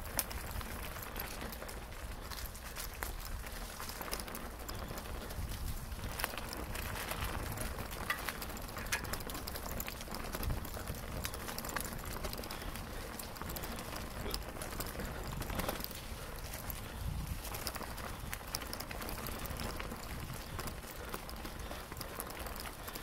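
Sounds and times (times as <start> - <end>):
bicycle knocks and rattles: 0.0 - 23.0
bicycle tyres crunching on dirt: 0.0 - 23.0.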